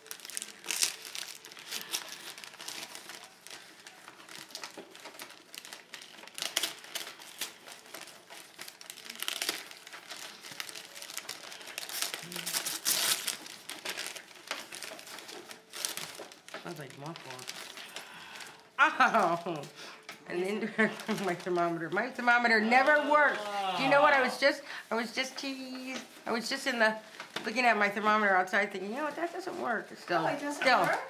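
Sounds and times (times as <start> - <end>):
wrapping paper ripping: 0.0 - 31.0
wrapping paper rustling: 0.0 - 31.0.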